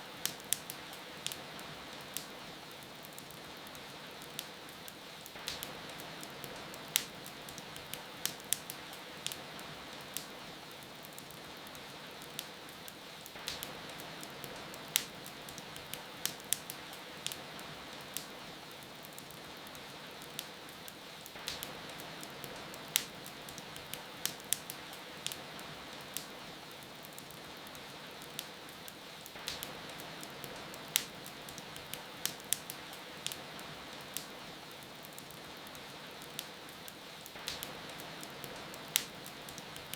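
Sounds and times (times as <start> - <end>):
rain falling: 0.0 - 39.9
wood fire crackling and popping: 0.0 - 39.9.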